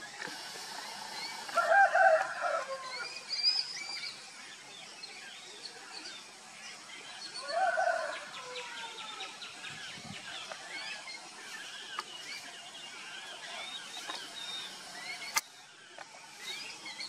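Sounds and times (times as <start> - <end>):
loud bird calls: 0.0 - 17.0
small birds chirping: 0.0 - 17.0.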